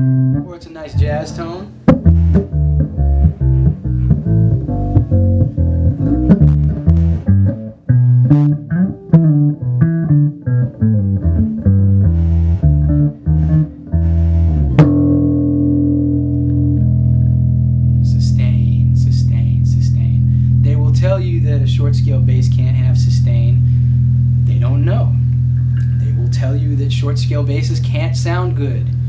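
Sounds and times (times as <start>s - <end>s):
electric bass plucked notes: 0.0s - 29.0s.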